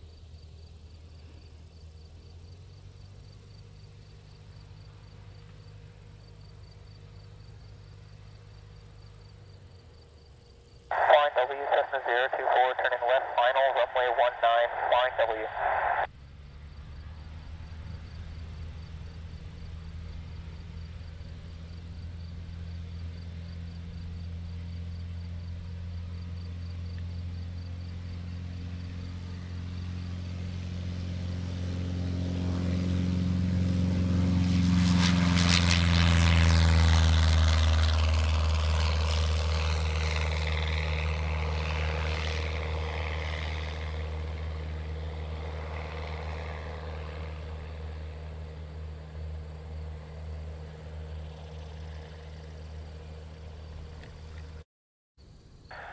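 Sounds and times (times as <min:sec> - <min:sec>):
airplane engine and propeller drone: 0:00.0 - 0:54.6, 0:55.2 - 0:55.9.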